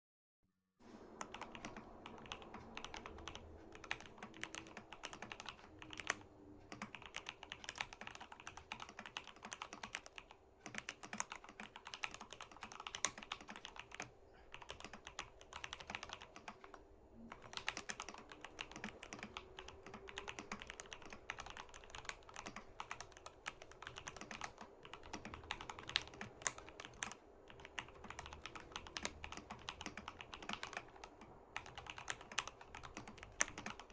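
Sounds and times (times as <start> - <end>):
mechanical keyboard typing: 1.2 - 33.9.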